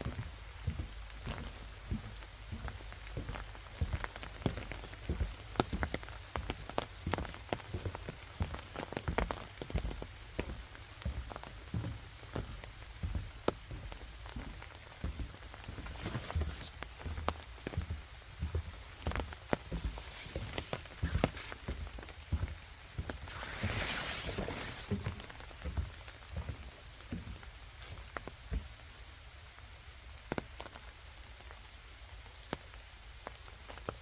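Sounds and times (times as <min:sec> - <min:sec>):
rain hissing: 0:00.0 - 0:34.0
raindrops tapping on surfaces: 0:00.0 - 0:34.0.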